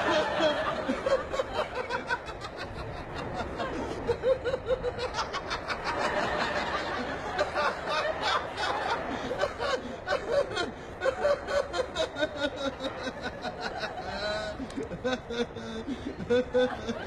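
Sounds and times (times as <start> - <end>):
studio audience laughing: 0.0 - 17.0.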